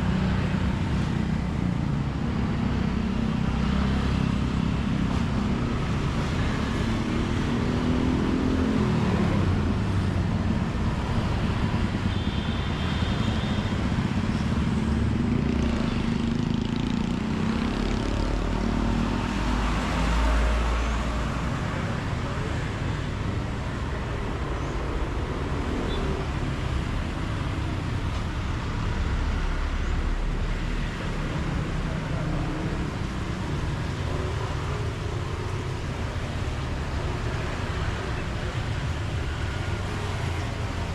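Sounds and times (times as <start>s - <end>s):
road traffic: 0.0s - 40.9s.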